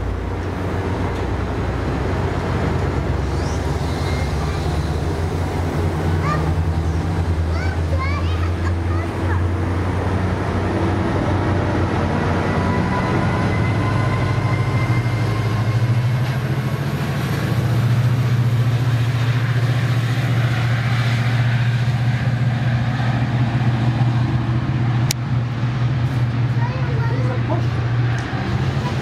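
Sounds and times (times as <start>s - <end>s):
diesel locomotive engine drone: 0.0s - 29.0s
rail noise: 0.0s - 29.0s.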